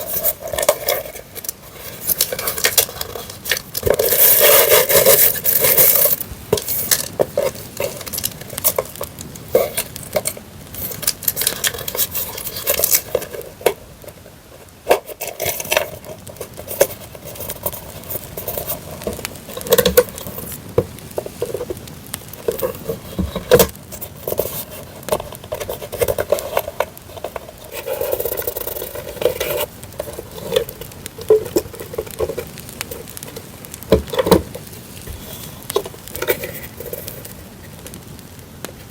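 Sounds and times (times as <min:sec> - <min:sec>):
campfire crackling: 0:00.0 - 0:38.9
paper and plastic rustling: 0:00.0 - 0:38.9.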